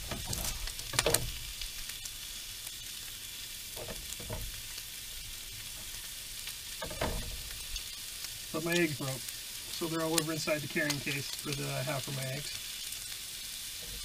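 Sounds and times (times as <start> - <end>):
sausage sizzling in a frying pan: 0.0 - 14.0.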